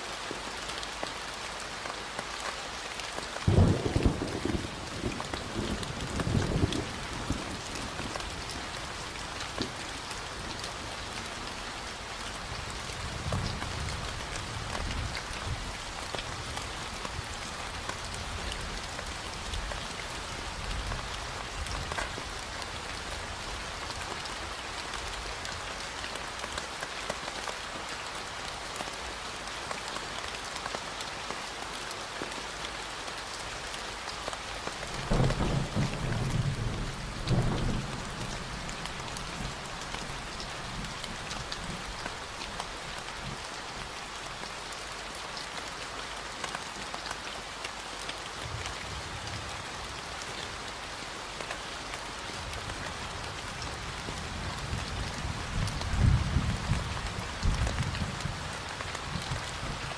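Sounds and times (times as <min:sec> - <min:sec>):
rain on a hard surface: 0:00.0 - 0:59.9.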